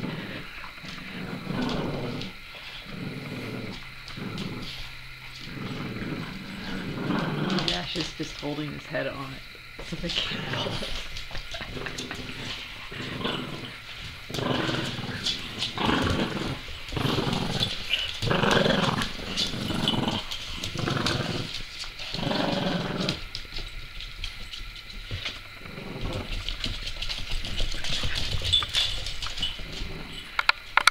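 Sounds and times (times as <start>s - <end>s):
puppies growling: 0.0s - 30.9s.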